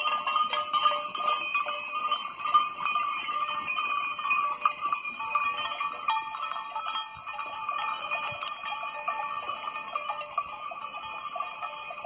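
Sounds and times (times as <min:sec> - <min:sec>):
goat bells clanking: 0:00.0 - 0:12.0.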